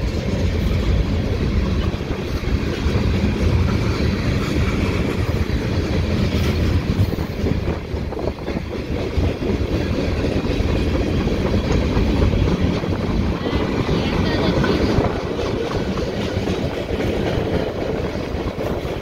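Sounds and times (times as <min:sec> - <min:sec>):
freight train rumbling past: 0:00.0 - 0:19.0
wheels clacking over rail joints: 0:00.0 - 0:19.0.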